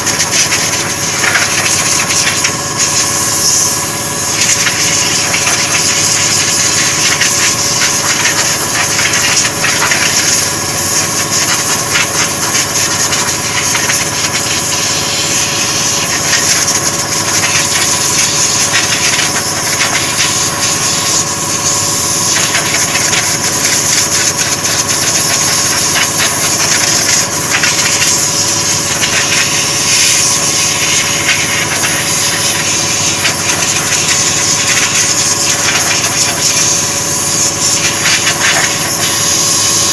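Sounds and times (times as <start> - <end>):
air compressor humming: 0.0 - 39.9
spray gun hissing: 0.0 - 39.9.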